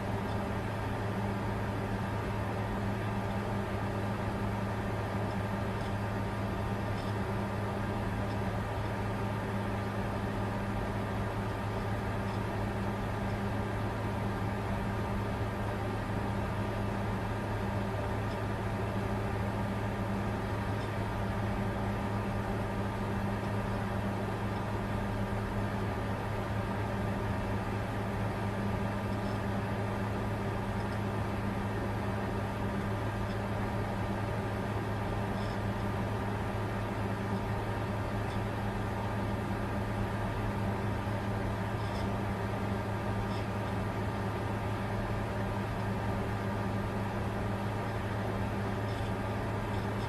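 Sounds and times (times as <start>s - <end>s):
cooling fans whirring: 0.0s - 50.0s
low even hum: 0.0s - 50.0s.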